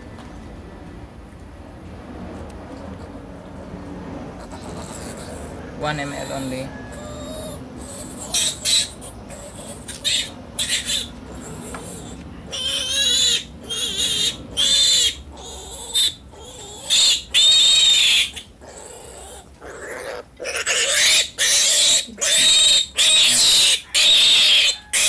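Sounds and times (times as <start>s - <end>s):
piglets squealing: 4.4s - 25.0s.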